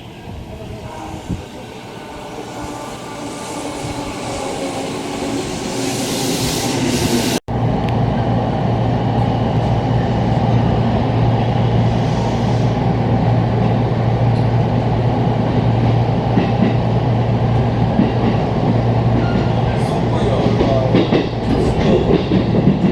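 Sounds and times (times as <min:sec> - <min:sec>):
train interior rumble and hum: 0:00.0 - 0:22.9.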